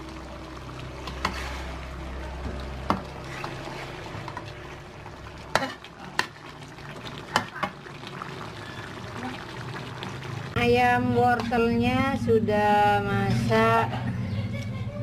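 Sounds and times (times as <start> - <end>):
faint sauce sizzle: 0.0 - 12.3.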